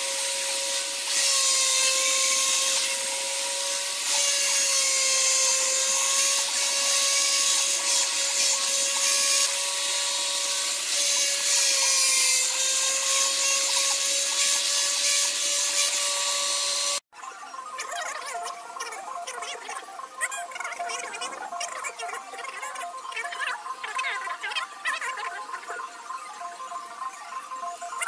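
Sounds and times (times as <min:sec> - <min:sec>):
power tool cutting wood: 0:00.0 - 0:17.1, 0:17.8 - 0:28.0.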